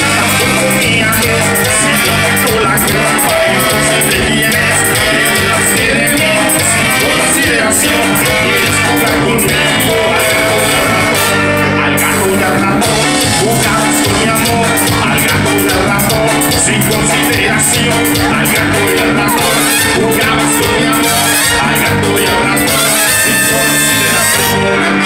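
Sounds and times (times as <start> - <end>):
live brass band music: 0.0 - 25.0.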